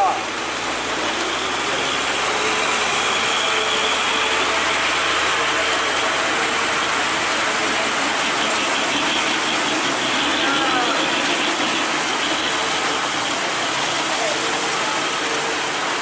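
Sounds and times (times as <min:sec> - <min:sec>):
heavy rain hissing: 0:00.0 - 0:16.0
truck engine running: 0:00.0 - 0:16.0.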